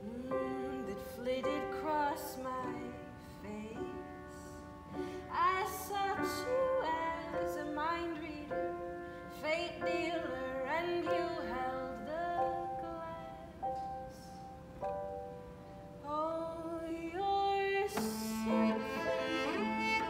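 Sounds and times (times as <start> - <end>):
woman singing: 0.0 - 14.4, 16.0 - 20.0
upright piano accompaniment: 0.0 - 16.0, 17.8 - 20.0.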